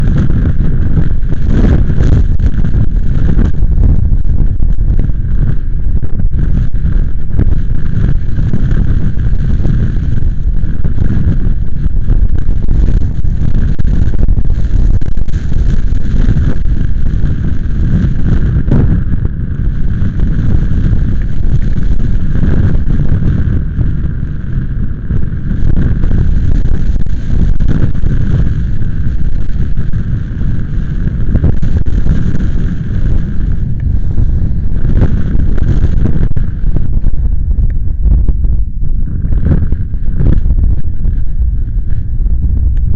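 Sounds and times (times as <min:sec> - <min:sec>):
gusty wind buffeting microphone: 0:00.0 - 0:42.9.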